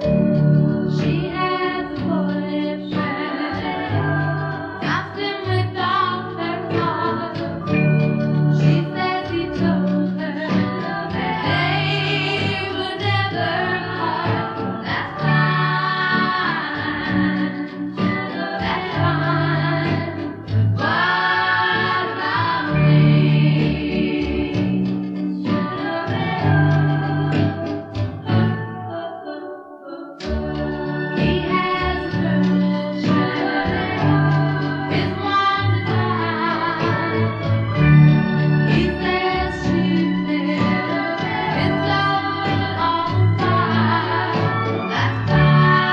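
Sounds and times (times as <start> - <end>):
pop band with bass line: 0.0 - 28.8, 30.3 - 45.9
voices singing in harmony: 0.0 - 45.9.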